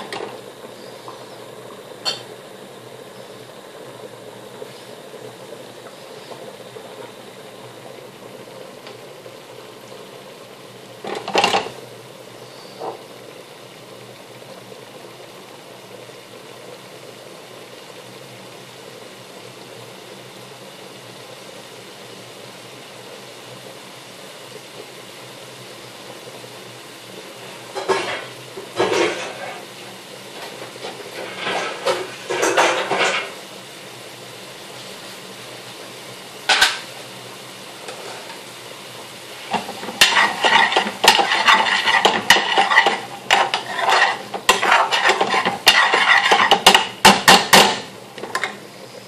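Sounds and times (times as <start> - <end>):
sauce bubbling in a pan: 0.0 - 49.0.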